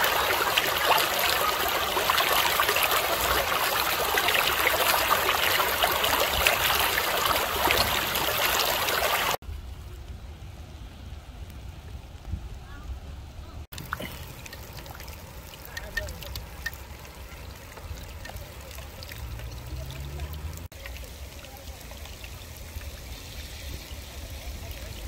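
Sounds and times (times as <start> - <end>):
floodwater rushing over rocks: 0.0 - 9.4, 13.7 - 25.0.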